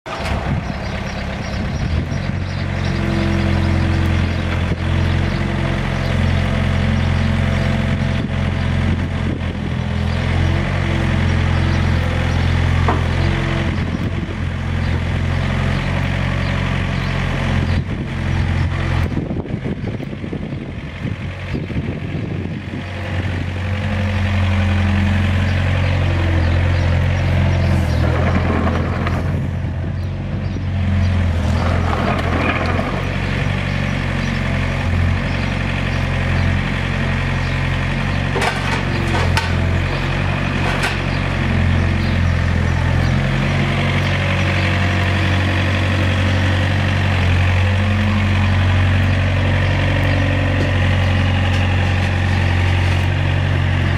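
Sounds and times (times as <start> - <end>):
excavator diesel engine running: 0.1 - 53.9.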